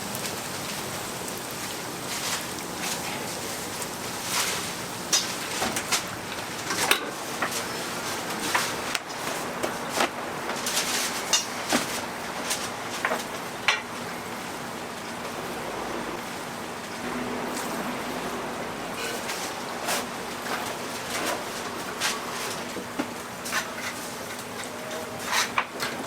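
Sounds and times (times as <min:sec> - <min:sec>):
oil sizzling in a deep fryer: 0:00.0 - 0:26.0.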